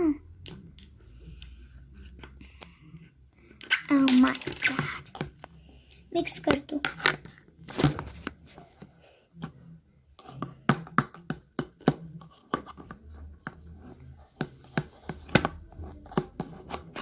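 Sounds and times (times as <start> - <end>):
stick stirring slime in plastic cup: 0.3 - 17.0.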